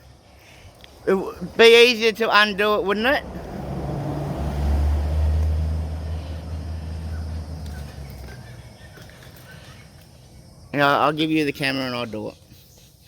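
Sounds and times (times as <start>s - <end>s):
vehicle engine rumble: 0.0s - 11.6s.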